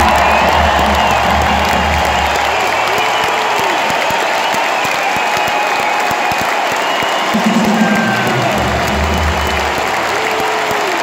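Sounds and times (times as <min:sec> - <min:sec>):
stadium crowd applauding and cheering: 0:00.0 - 0:11.0.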